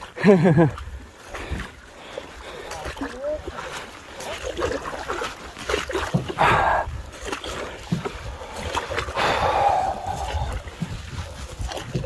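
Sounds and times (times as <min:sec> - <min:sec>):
paddle strokes in water: 0:00.0 - 0:12.0.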